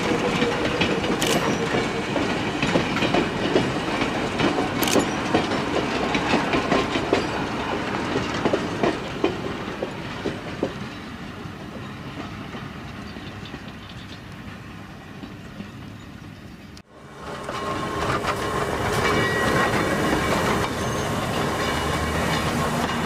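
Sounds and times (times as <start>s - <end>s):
train wheels clicking over joints: 0.0s - 23.0s.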